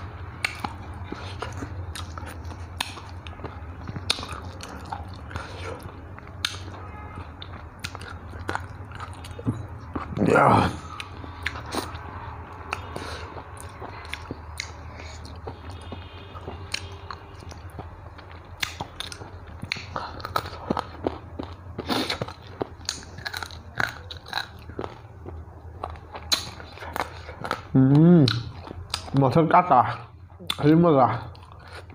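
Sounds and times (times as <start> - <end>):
low steady hum: 0.0 - 31.9
chewing and crunching fish bones: 0.4 - 29.4, 30.4 - 31.9.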